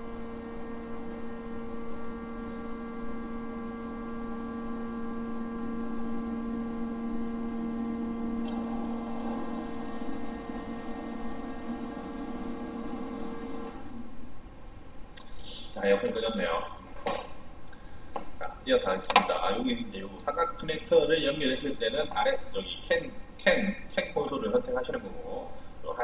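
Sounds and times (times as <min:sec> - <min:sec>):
air conditioner hum: 0:00.0 - 0:26.0.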